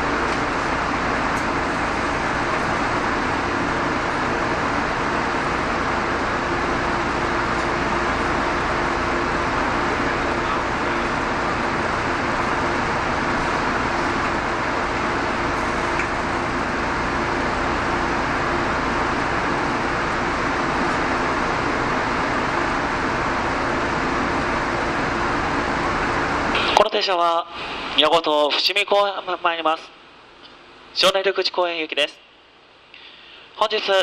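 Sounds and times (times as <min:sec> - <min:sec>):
air conditioning rush: 0:00.0 - 0:34.0
faint constant hum: 0:00.0 - 0:34.0.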